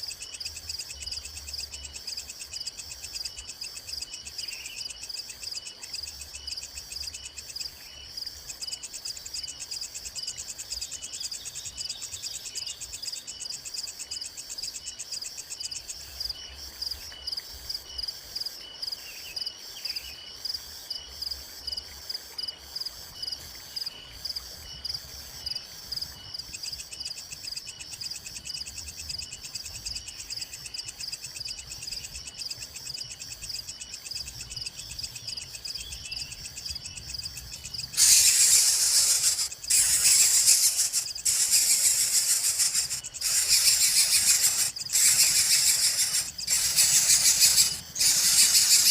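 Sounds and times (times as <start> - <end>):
insects chirping: 0.0 - 48.9
repeating insect call: 0.0 - 48.9.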